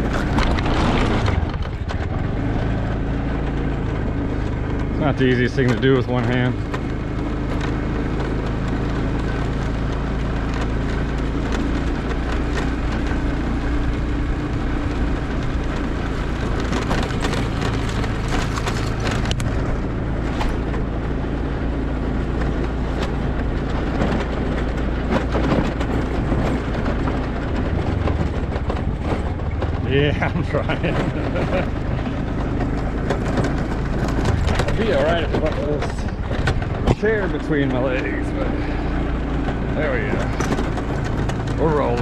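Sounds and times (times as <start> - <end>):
motorbike engine running: 0.0 - 42.0.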